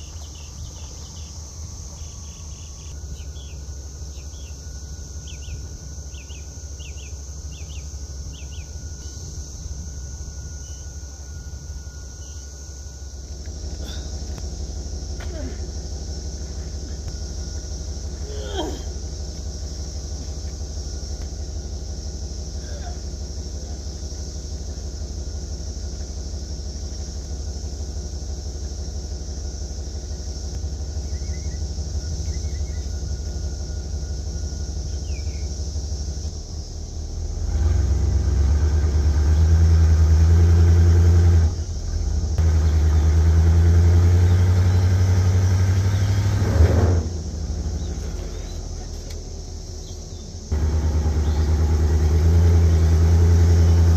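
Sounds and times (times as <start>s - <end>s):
bus engine idling and revving: 0.0s - 53.9s.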